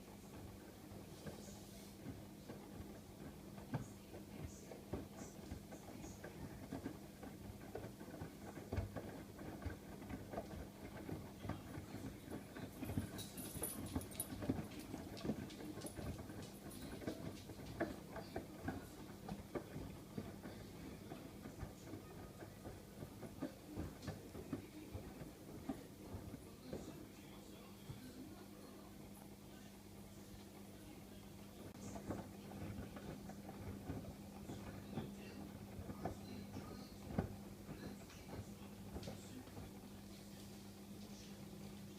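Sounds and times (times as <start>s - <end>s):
washing machine hum: 0.0s - 41.9s.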